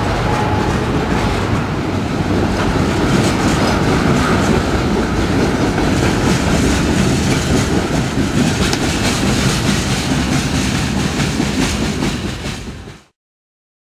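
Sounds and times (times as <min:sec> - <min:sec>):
clickety-clack over rail joints: 0:00.0 - 0:13.1
train wheels rumbling on rail: 0:00.0 - 0:13.2.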